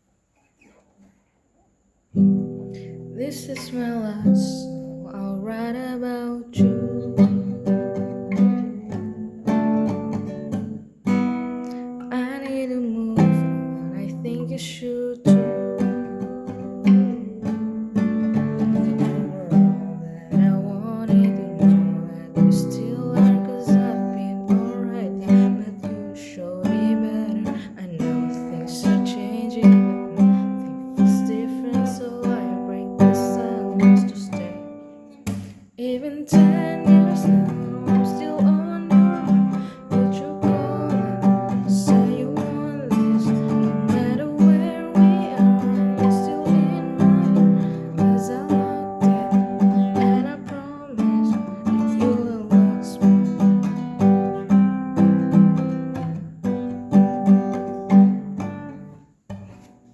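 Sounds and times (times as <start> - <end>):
song with strummed acoustic guitar: 2.1 - 59.9.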